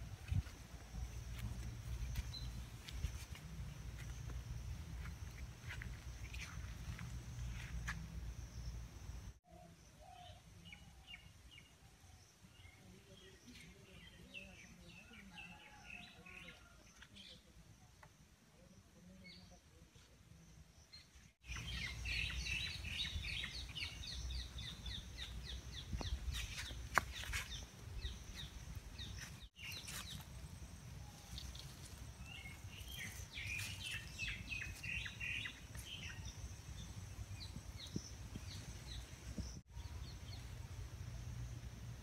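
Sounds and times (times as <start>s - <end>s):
small birds chirping: 0.1s - 41.6s.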